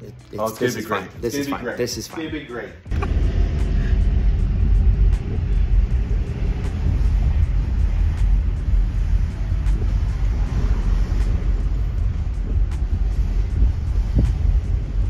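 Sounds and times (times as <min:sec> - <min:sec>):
road and tyre noise: 0:00.0 - 0:15.0
car interior low rumble: 0:02.3 - 0:15.0.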